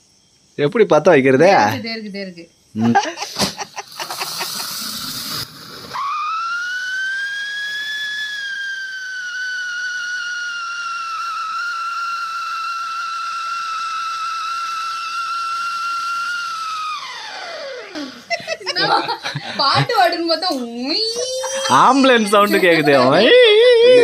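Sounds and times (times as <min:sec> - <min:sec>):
firework fuse fizzing: 0:03.0 - 0:23.4
firework whistle: 0:03.2 - 0:24.0.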